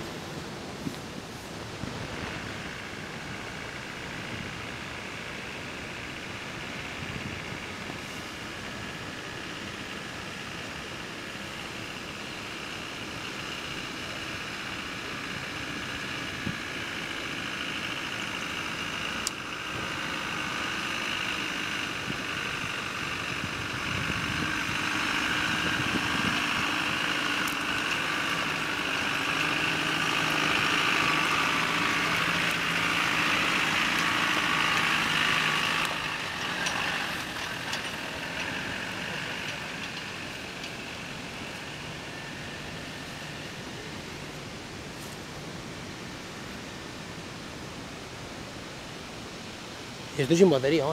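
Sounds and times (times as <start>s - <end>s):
off-road vehicle engine crawling: 0.0s - 50.9s.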